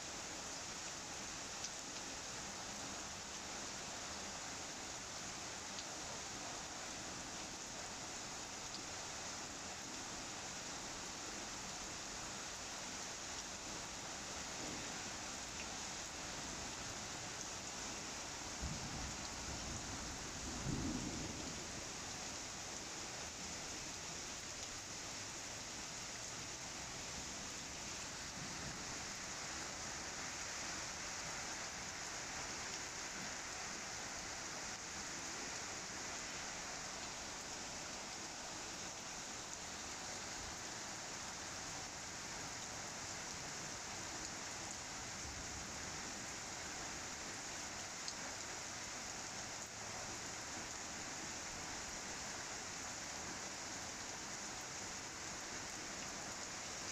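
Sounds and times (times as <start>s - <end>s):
light rain falling: 0.0s - 56.9s.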